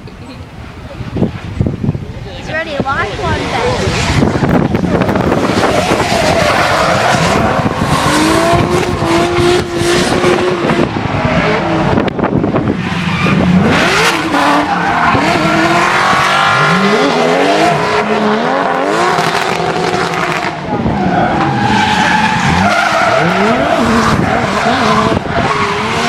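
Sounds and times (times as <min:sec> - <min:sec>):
car engine revving: 0:03.2 - 0:26.0.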